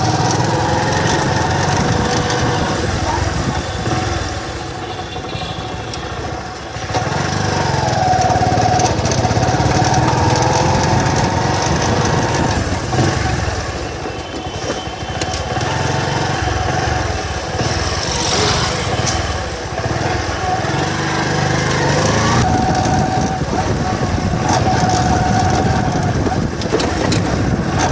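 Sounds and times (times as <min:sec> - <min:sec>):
motorcycle engine: 0:00.0 - 0:27.9.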